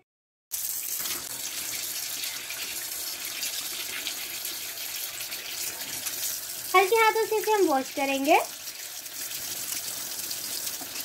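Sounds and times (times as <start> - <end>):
tap water splashing in sink: 0.7 - 11.0.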